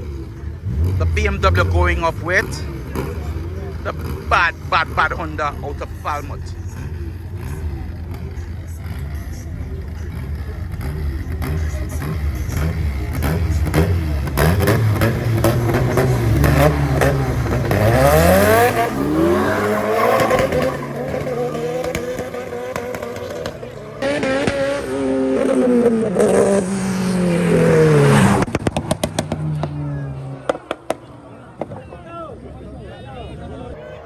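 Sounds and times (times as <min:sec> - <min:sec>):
race cars accelerating: 0:00.0 - 0:34.0.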